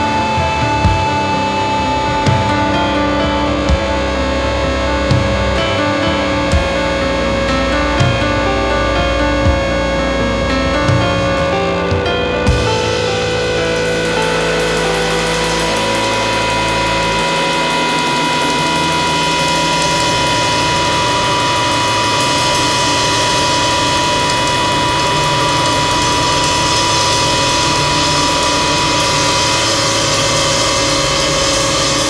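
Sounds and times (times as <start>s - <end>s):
distorted rock band drone: 0.0s - 32.0s.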